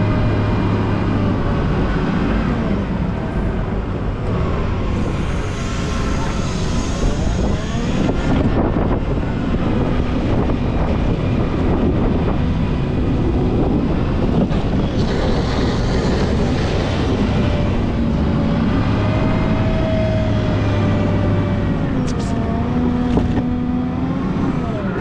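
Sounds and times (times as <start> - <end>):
wheel loader diesel engine: 0.0 - 25.0.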